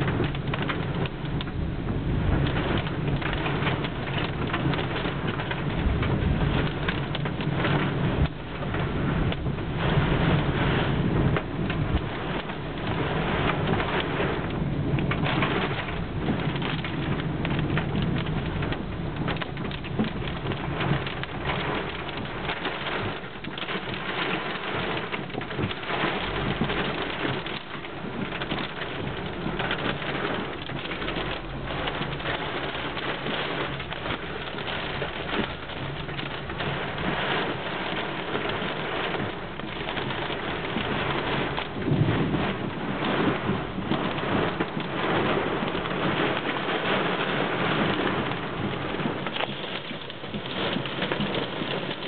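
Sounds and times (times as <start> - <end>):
torrential rain on car windshield: 0.0 - 52.0.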